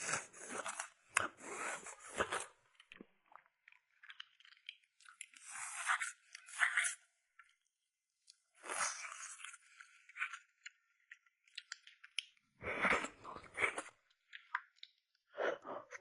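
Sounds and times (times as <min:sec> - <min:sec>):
person chewing food: 0:00.1 - 0:07.6, 0:08.3 - 0:16.0.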